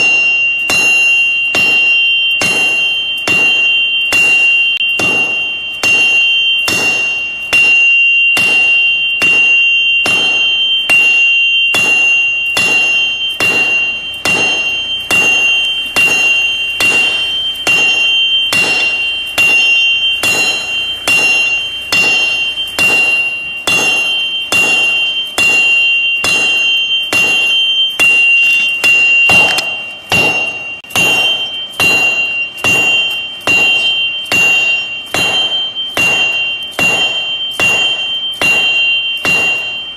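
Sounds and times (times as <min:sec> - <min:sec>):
anvil ringing: 0:00.0 - 0:39.9
hammer striking metal anvil: 0:00.0 - 0:39.9.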